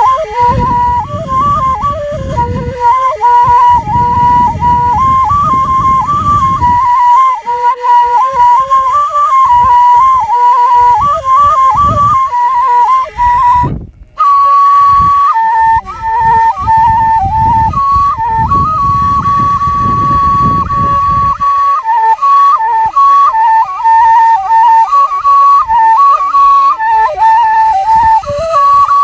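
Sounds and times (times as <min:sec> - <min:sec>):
flute folk melody: 0:00.0 - 0:29.0.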